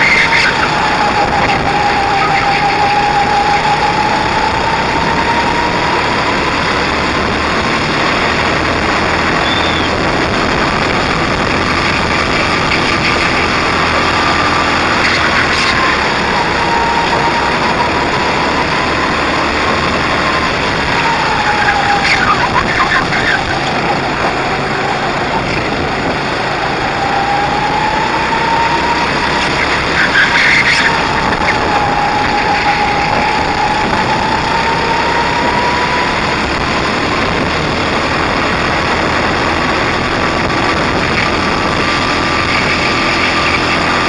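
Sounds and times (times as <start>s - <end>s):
go-kart engine running at speed: 0.0s - 44.0s.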